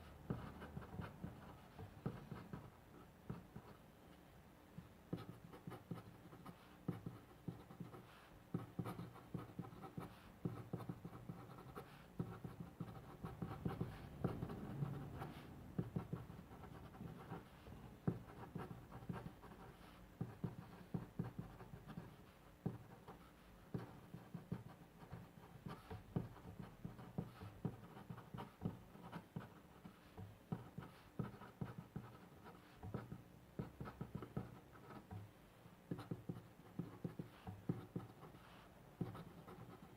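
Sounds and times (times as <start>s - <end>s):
pen scratching on paper: 0.0s - 3.8s, 5.1s - 35.3s, 35.9s - 39.9s.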